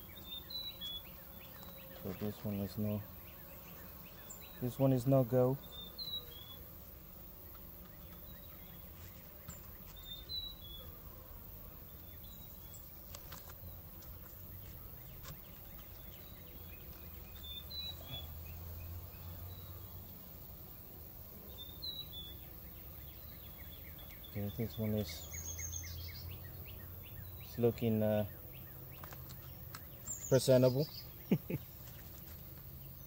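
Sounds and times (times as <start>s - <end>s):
bird chirping: 0.0s - 5.0s, 5.6s - 6.7s, 7.4s - 11.0s, 11.9s - 20.0s, 21.4s - 33.0s
honeybees humming: 0.0s - 33.0s.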